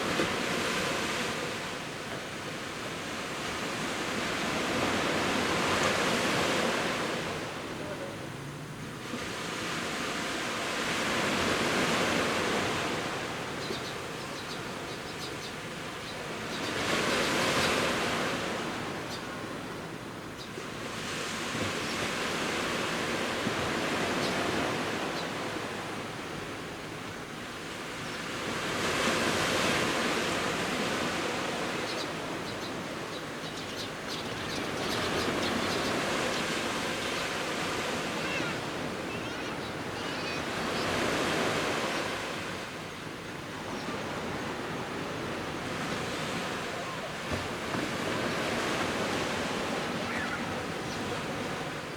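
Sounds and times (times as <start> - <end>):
sea waves breaking on beach: 0.0 - 13.6, 20.6 - 33.1, 34.5 - 51.9.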